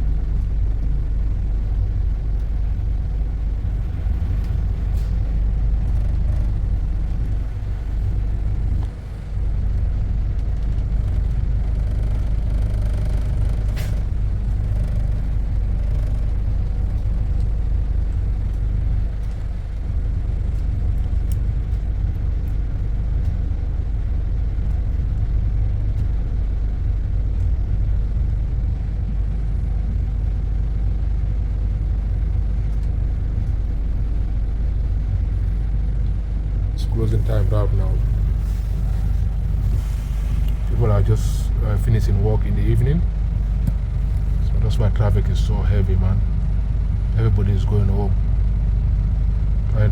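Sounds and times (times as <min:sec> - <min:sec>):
bus rumbling: 0:00.0 - 0:49.9.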